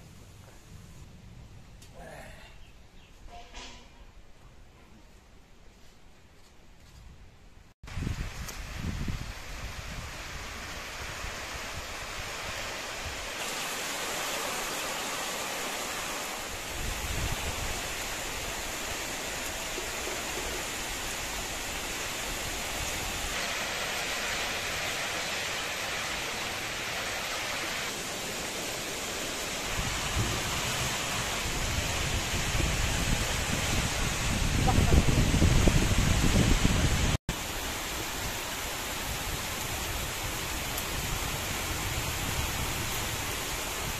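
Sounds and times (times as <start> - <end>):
steady rain falling: 7.8 - 43.9.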